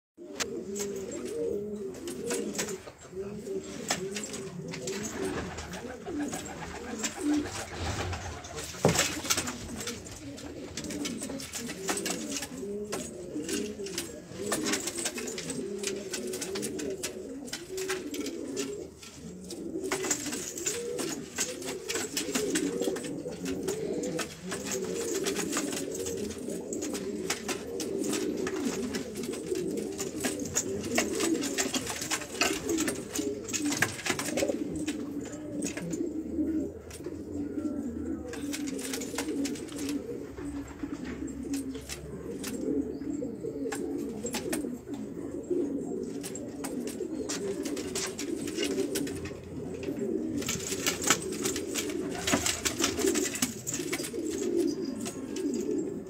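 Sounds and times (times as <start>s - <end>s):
pigeons cooing: 0.2s - 56.0s.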